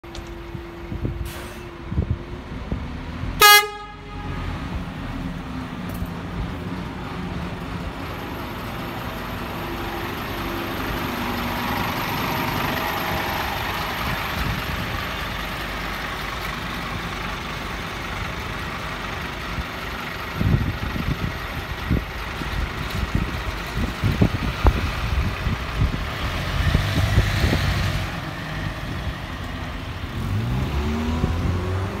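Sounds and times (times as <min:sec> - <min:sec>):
bus engine accelerating: 0:00.0 - 0:32.0.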